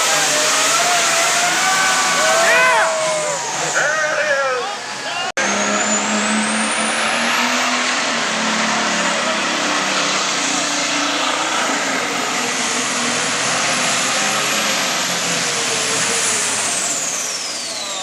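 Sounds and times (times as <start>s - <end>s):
diesel engine running under load: 0.0s - 18.0s
high turbo whine: 0.0s - 18.0s.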